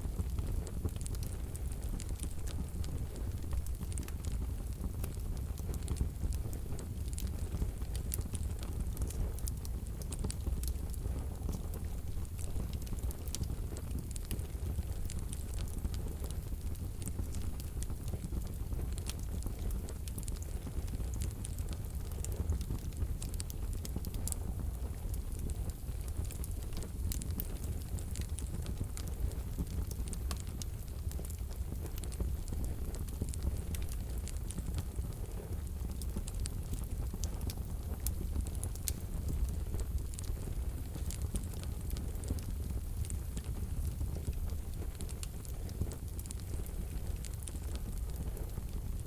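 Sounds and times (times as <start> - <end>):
burning logs crackling and popping: 0.0 - 49.0
flames rumbling: 0.0 - 49.0.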